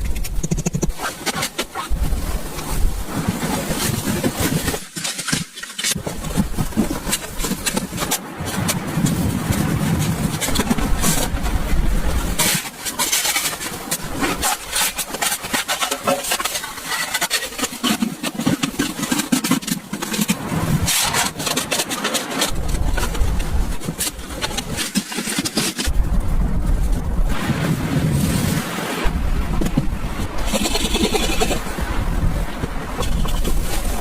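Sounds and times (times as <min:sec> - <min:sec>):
wind gusting against microphone: 0:00.0 - 0:04.8, 0:06.0 - 0:19.0, 0:19.8 - 0:34.0
rubbing and clicking noises: 0:00.0 - 0:26.0, 0:29.5 - 0:34.0.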